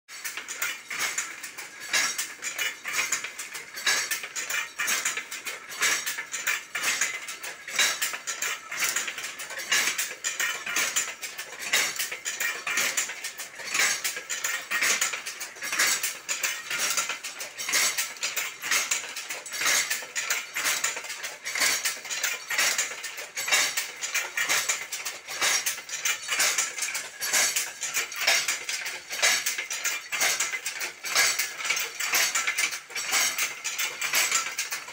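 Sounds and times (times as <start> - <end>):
handloom rattling clatter: 0.1 - 34.9
loom clacking: 0.1 - 34.9
quick loom clicks: 0.1 - 34.9.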